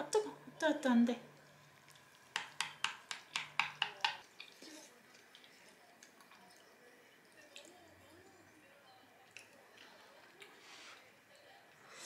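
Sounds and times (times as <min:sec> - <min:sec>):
faint eating sounds: 0:00.1 - 0:12.0.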